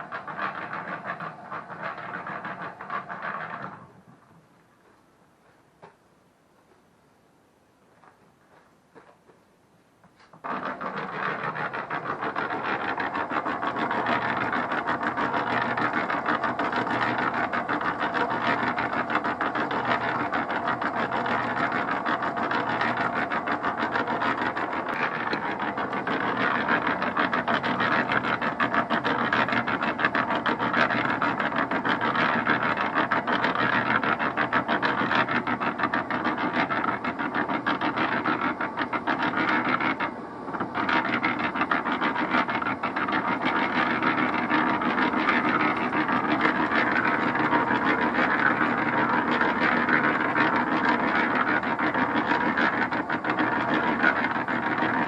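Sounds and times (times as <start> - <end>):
concrete mixer rattling: 0.0 - 5.0, 10.2 - 55.0.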